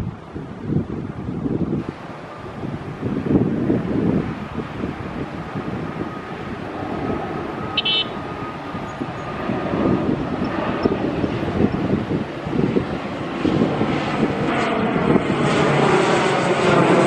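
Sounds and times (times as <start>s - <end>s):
turboprop airliner engines droning: 0.0s - 17.0s.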